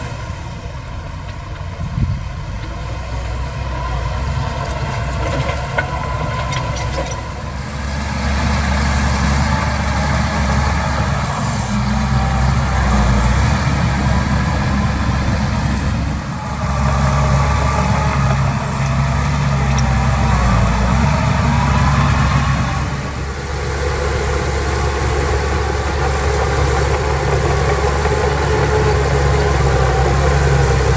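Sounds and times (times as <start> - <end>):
heavy machinery diesel engine: 0.0 - 30.9.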